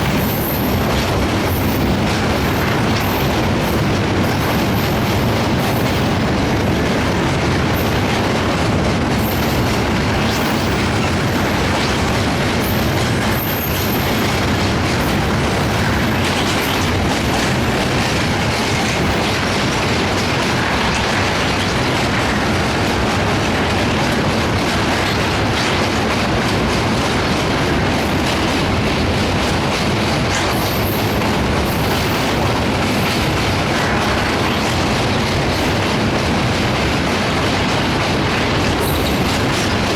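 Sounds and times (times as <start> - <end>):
train wheels rumbling over bridge: 0.0 - 39.9.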